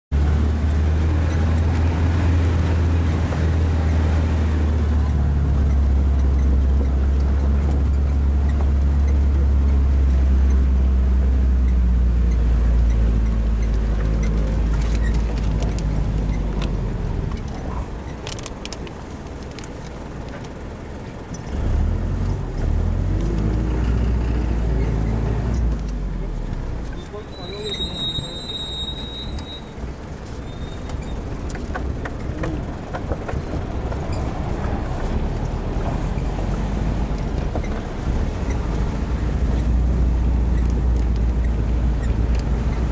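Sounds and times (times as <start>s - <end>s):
jeep engine rumbling: 0.1s - 42.9s.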